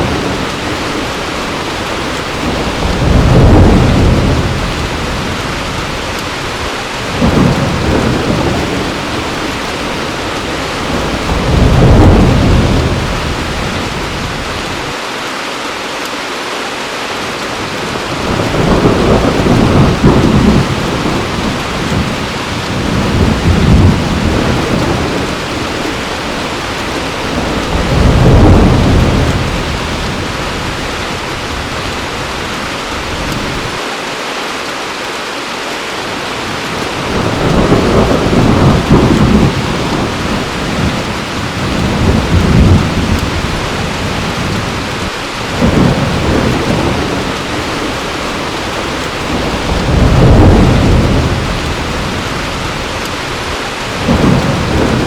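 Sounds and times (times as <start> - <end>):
thunder rumbling: 0.0 - 15.0, 17.6 - 33.8, 36.3 - 55.0
heavy rain falling: 0.0 - 55.0.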